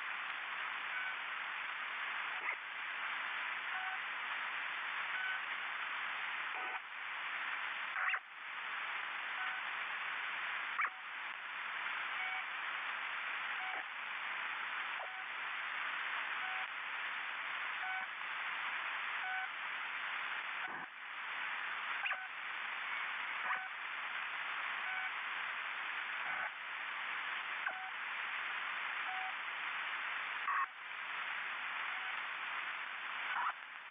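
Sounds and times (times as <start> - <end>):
static hiss: 0.0 - 33.9.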